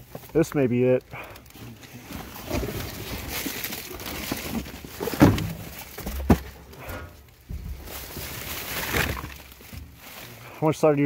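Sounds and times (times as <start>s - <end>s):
plastic bags and cardboard rustling: 0.0s - 11.0s.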